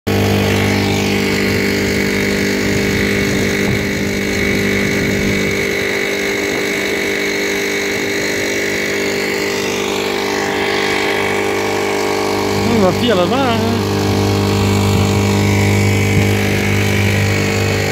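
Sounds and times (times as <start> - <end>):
outboard motor droning: 0.0 - 17.9.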